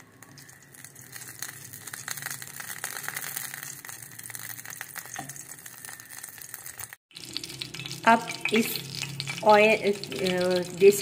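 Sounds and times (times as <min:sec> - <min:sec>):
ghee sizzling in a frying pan: 0:00.0 - 0:11.0.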